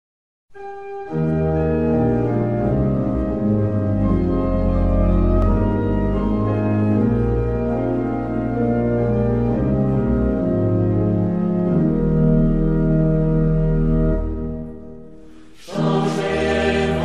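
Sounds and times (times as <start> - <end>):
organ playing sustained chords: 0.6 - 17.0.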